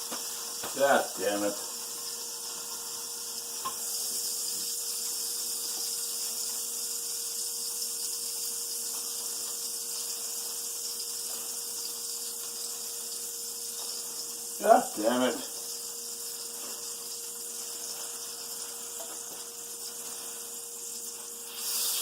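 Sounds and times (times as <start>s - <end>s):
butter and eggs sizzling in pan: 0.0s - 22.0s.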